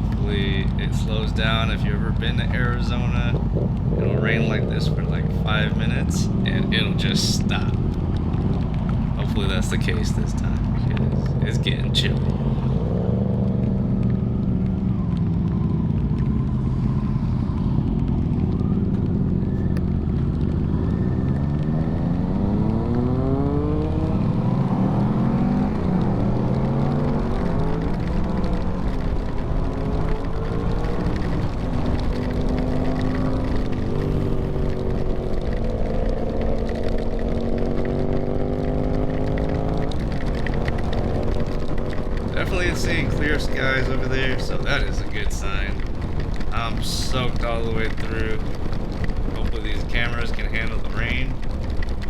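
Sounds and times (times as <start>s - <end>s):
low rush of wind: 0.0s - 52.0s
motorcycle engine at speed: 0.0s - 52.0s.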